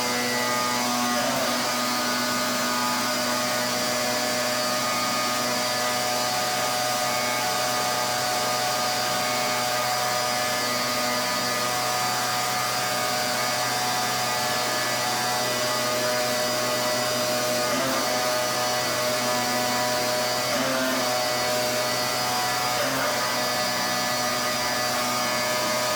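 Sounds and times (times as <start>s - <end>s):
pressure washer machine hum: 0.0s - 25.9s.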